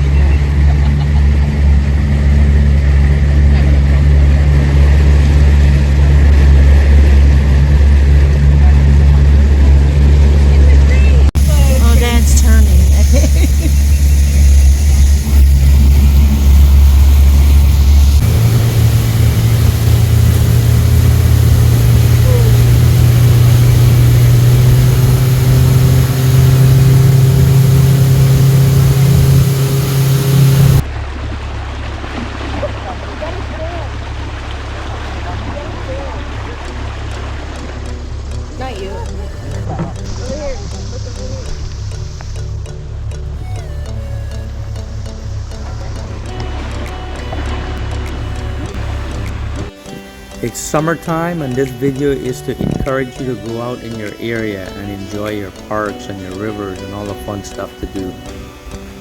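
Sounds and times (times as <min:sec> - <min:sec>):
boat motor humming: 0:00.0 - 0:59.0
engine running steadily: 0:00.0 - 0:59.0.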